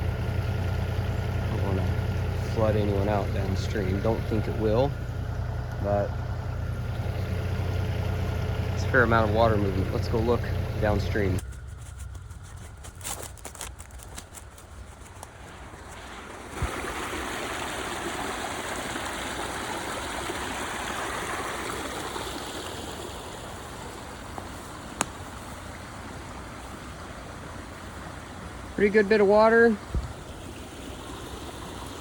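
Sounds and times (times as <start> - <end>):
water rushing through channel: 0.0 - 5.0, 6.9 - 32.0.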